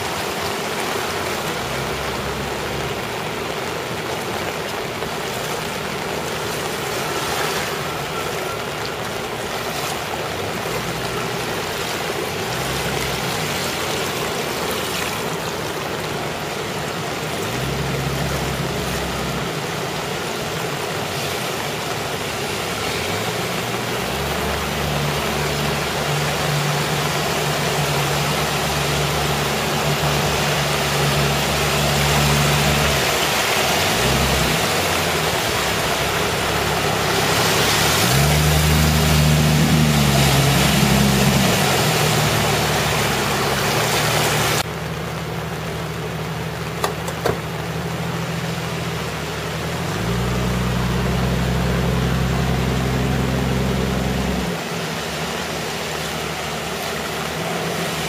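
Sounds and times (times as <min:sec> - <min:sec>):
car engines running: 0:00.0 - 0:58.0
water rushing and splashing: 0:00.0 - 0:58.0.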